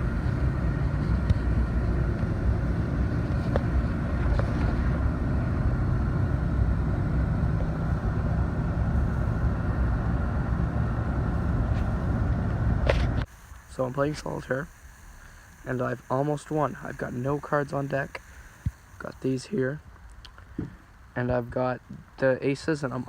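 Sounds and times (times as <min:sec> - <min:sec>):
vehicle driving rumble: 0:00.0 - 0:22.2.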